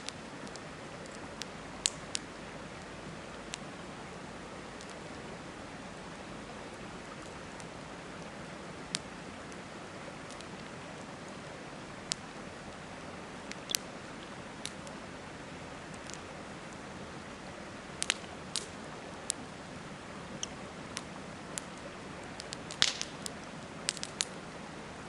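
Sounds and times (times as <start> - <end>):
campfire crackling and popping: 0.0 - 5.2, 7.0 - 15.0, 15.8 - 24.5
river rushing: 0.0 - 25.0.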